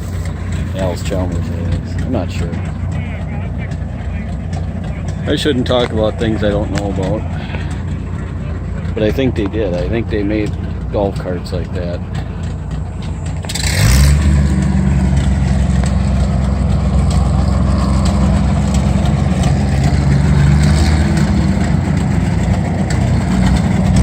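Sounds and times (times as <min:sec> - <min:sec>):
engine starting and running: 0:00.0 - 0:24.0.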